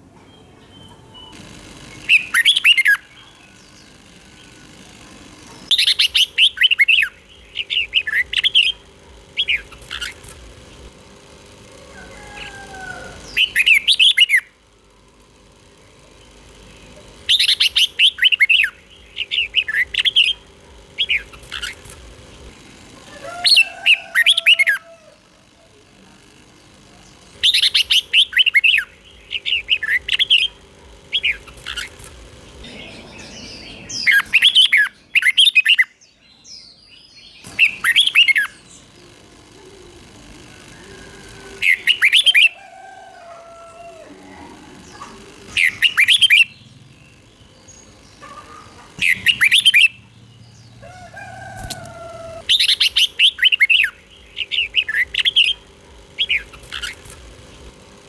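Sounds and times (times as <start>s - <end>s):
bird singing warbled phrases: 0.2s - 15.0s, 15.6s - 25.8s, 26.5s - 58.0s.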